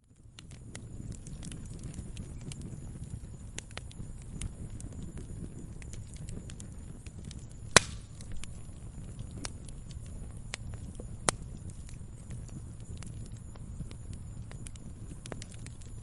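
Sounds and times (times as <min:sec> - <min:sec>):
log fire crackling and popping: 0:00.0 - 0:16.0
low rumble of burning: 0:00.0 - 0:16.0.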